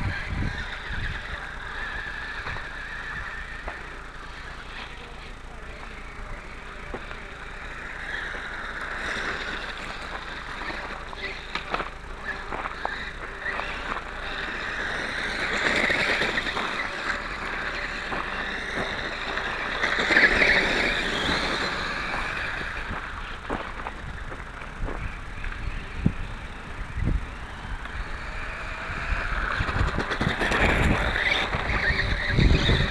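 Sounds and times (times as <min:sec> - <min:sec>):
toy motorcycle motor whining: 0:00.0 - 0:32.9.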